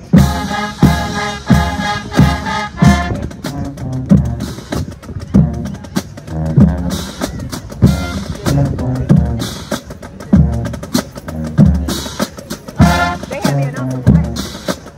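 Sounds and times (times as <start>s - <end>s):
marching band playing: 0.0s - 14.9s.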